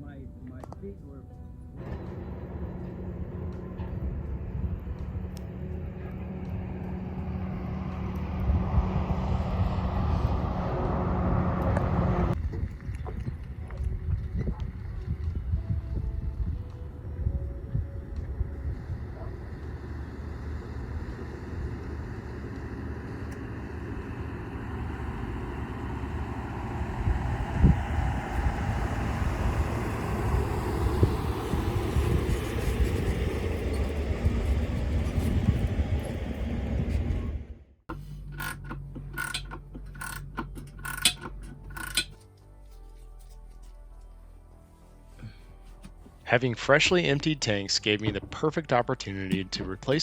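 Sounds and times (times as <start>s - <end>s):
vehicle road and engine rumble: 0.0s - 50.0s.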